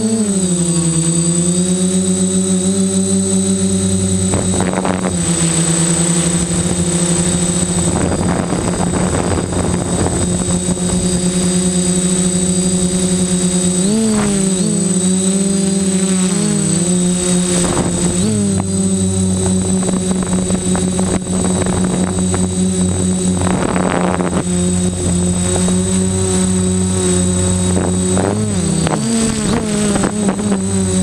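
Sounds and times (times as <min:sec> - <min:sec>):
drone motors humming: 0:00.0 - 0:31.0
wind noise on microphone: 0:01.8 - 0:31.0.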